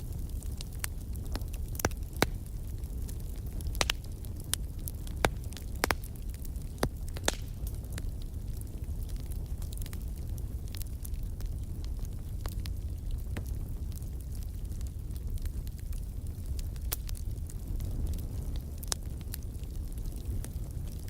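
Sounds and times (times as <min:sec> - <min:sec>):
firewood crackling and popping: 0:00.0 - 0:21.0
low fire rumble: 0:00.0 - 0:21.0.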